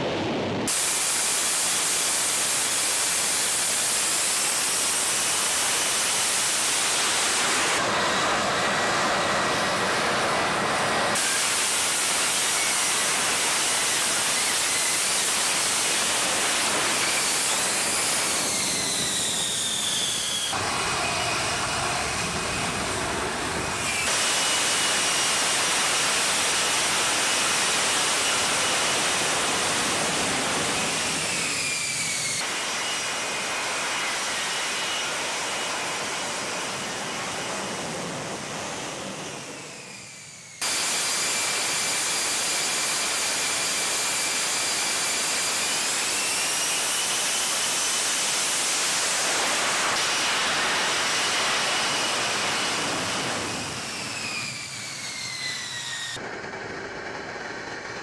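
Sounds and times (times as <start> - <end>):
jet engine roaring with whine: 0.0 - 58.0.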